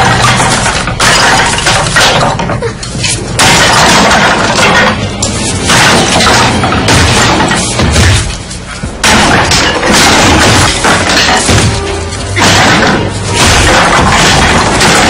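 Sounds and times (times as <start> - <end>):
tense horror film score: 0.0 - 15.0.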